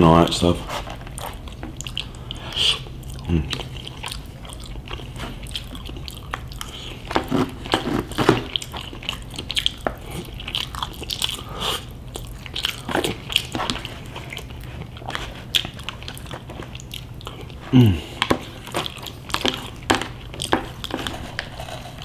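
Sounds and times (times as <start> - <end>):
low steady hum: 0.0 - 22.0
wet chewing sounds: 0.7 - 22.0.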